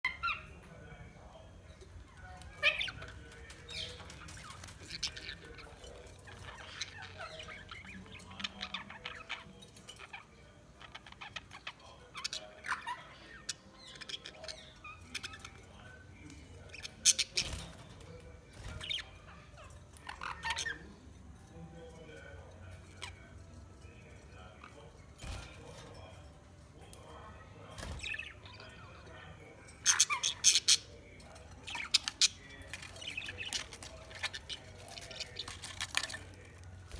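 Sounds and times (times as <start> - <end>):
budgerigars chirping and squawking: 0.0 - 36.9.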